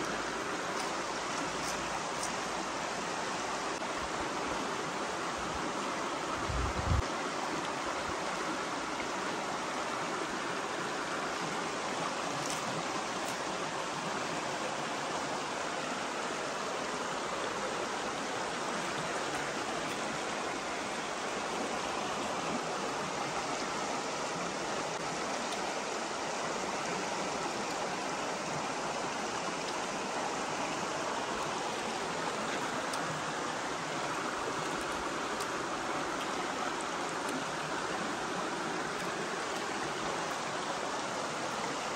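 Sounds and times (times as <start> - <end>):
stream water running over rocks: 0.0 - 41.9.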